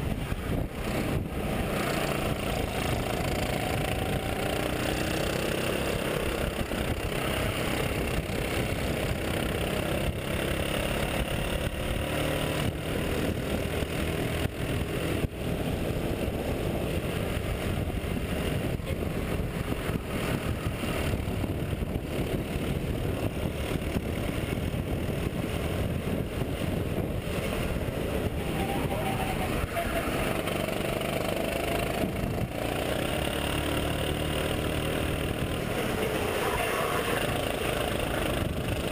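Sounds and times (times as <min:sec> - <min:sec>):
kart engine racing: 0:00.0 - 0:38.9
wind and track noise: 0:00.0 - 0:38.9.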